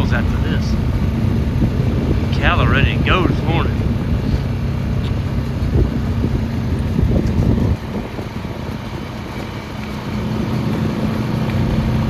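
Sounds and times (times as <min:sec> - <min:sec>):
small vehicle engine running: 0:00.0 - 0:12.0
wind buffeting microphone: 0:00.0 - 0:12.0.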